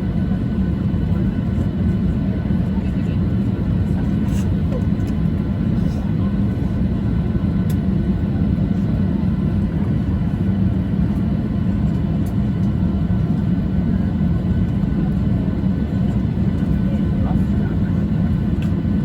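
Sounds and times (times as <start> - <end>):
jet engine and air-system rumble: 0.0 - 19.0.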